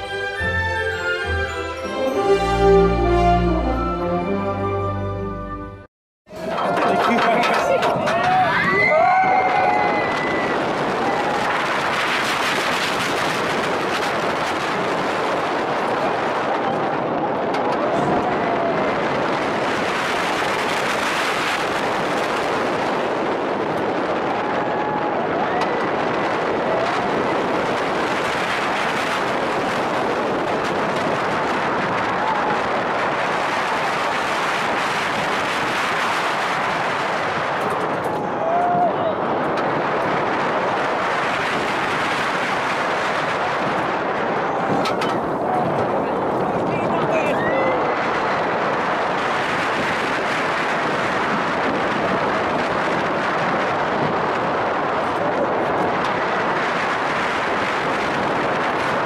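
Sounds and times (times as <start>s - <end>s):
roller coaster running on track: 6.3s - 59.0s
wind on microphone: 6.3s - 59.0s.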